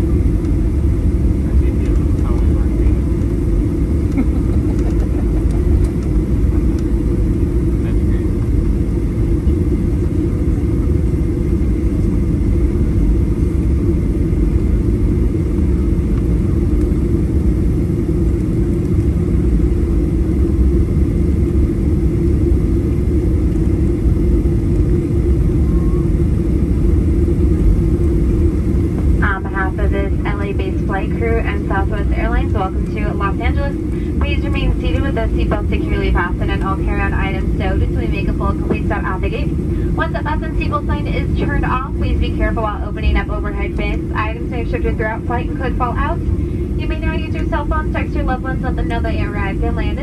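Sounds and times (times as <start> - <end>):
jet engines droning: 0.0 - 50.0.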